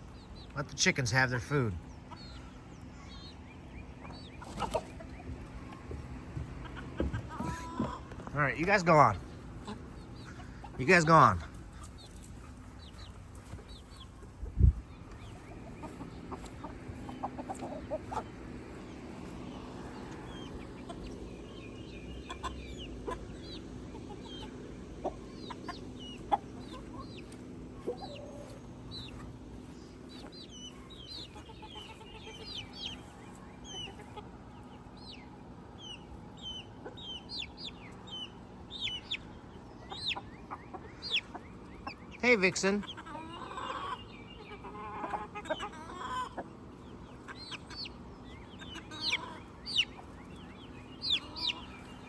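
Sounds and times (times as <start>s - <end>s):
chickens clucking and calling: 0.0s - 52.0s.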